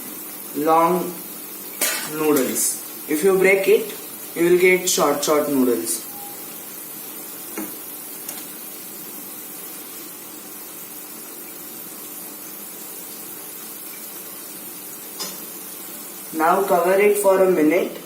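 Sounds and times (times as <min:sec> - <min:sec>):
noodles sizzling in a pan: 0:00.0 - 0:18.0.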